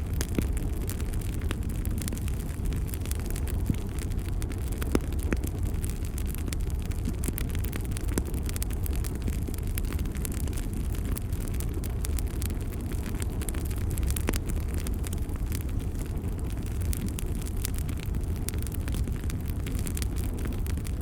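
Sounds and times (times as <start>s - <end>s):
rumble of flames: 0.0s - 21.0s
wood crackling and popping: 0.0s - 21.0s.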